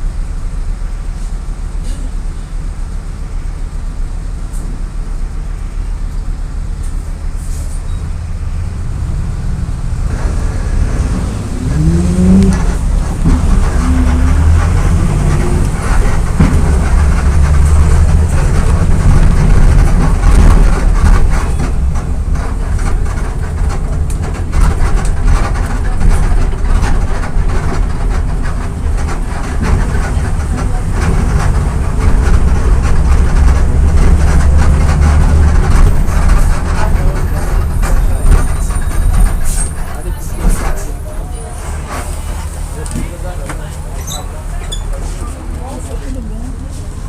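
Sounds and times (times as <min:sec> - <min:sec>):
body and road rattle: 0:00.0 - 0:47.0
bus diesel engine rumbling: 0:00.0 - 0:47.0.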